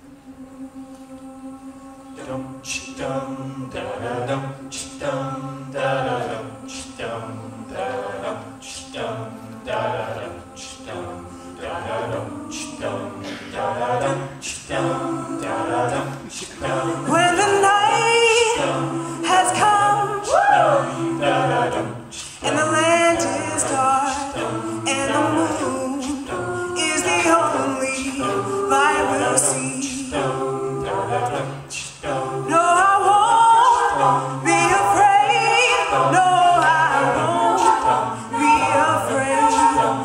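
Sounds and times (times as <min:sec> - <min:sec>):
a cappella group singing: 0:00.0 - 0:40.0.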